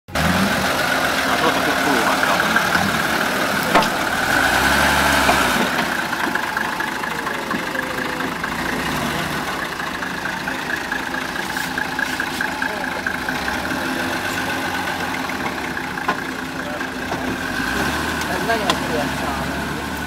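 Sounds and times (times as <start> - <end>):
engine running at low revs: 0.1 - 20.0.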